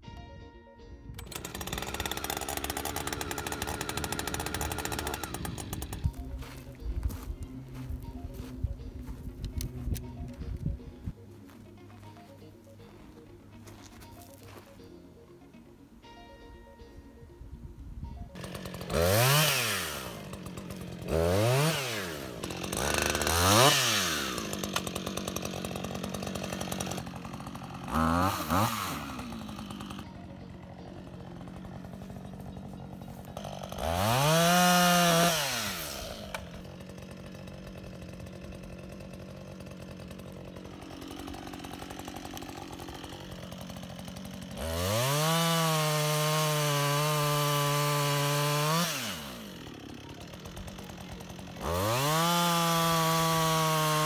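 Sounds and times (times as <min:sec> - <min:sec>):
chainsaw cutting wood: 0:01.1 - 0:17.3, 0:18.2 - 0:54.0
chainsaw idling and revving: 0:01.2 - 0:15.6, 0:18.2 - 0:54.0.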